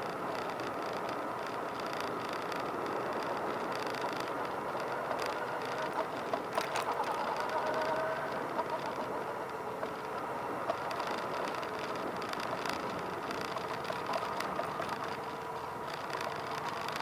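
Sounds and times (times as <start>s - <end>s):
motorcycle engines running: 0.0s - 17.0s
sharp clicks: 0.0s - 17.0s.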